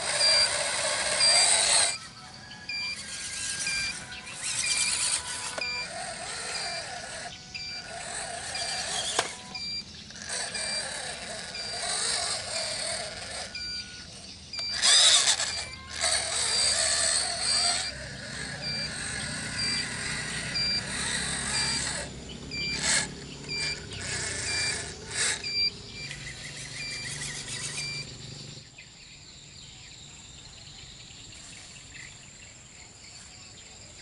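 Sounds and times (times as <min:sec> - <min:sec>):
electronic reversing beep: 0:00.0 - 0:28.6
model truck motors whirring: 0:00.0 - 0:28.9.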